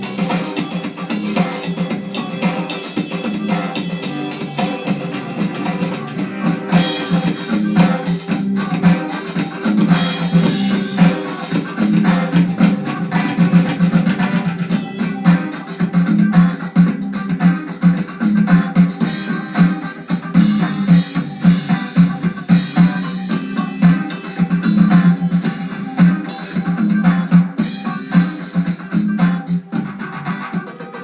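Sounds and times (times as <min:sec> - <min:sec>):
music from television speakers: 0:00.0 - 0:31.0.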